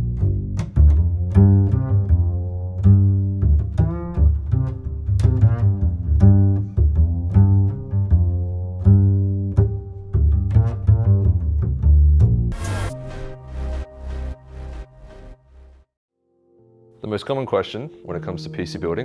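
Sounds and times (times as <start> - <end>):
plucked and bowed string music: 0.0 - 15.7.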